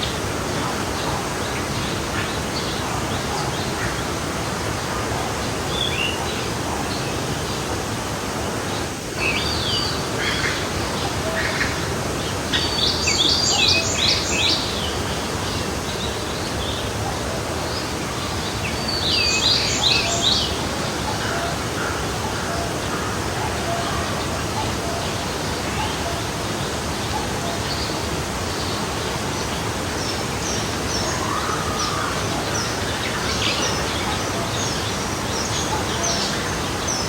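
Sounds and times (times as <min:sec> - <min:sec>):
birds singing: 0:00.0 - 0:37.0
forest stream rushing: 0:00.0 - 0:37.0.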